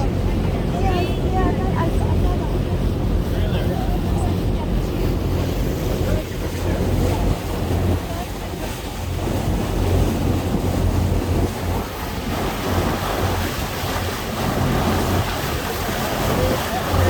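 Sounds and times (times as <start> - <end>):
boat engine droning: 0.0 - 17.0
water rushing around boat: 0.0 - 17.0
wind buffeting microphone: 0.0 - 17.0.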